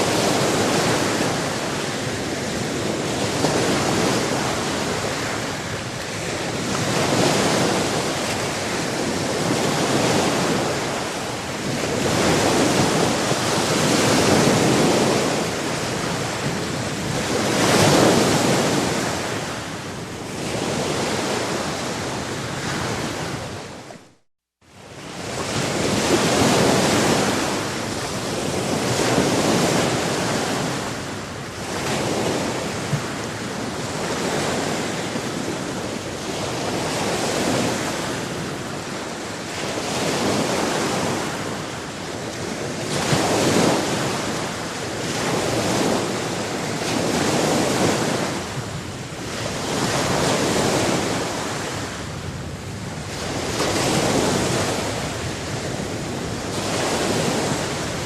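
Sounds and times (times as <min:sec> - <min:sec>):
sea waves washing onto shore: 0:00.0 - 0:24.1, 0:24.7 - 0:58.0.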